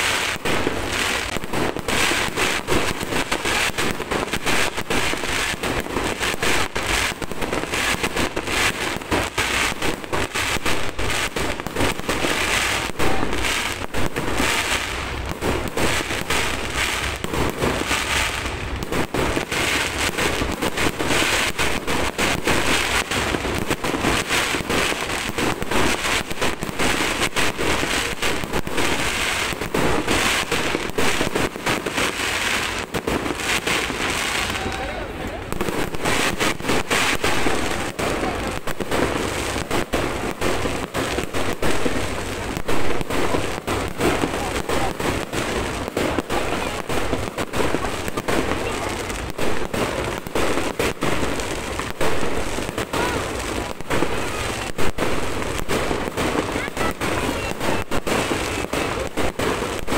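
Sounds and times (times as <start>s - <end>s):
fireworks crackling: 0.0s - 59.9s.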